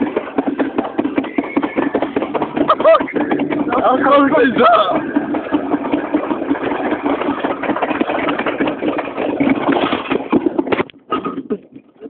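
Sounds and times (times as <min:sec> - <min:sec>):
rollercoaster rattling on track: 0:00.0 - 0:12.0.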